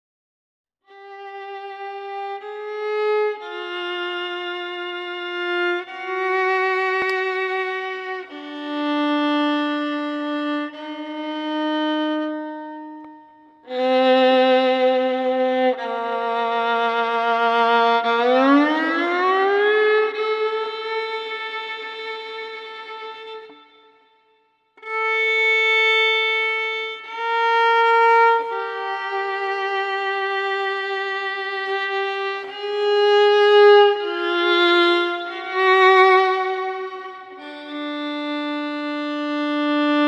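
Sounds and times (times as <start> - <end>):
violin playing slow melody: 0.9 - 40.0.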